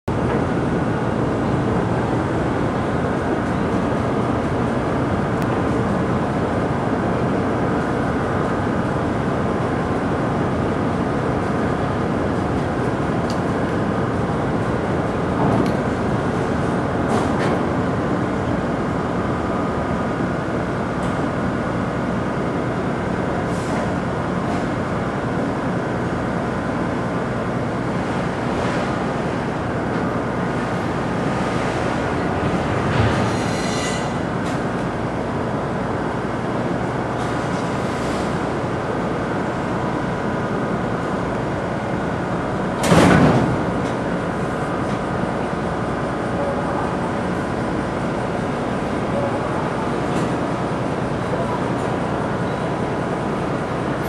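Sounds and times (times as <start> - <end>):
ship engines rumbling: 0.1 - 54.0.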